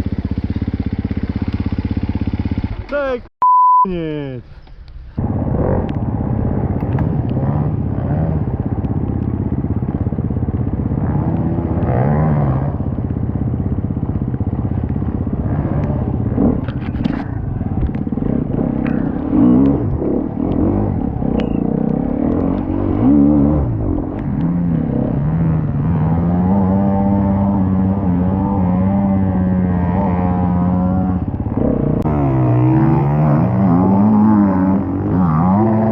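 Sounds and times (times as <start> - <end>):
dirt bike engine revving: 0.0 - 3.0, 5.2 - 35.9.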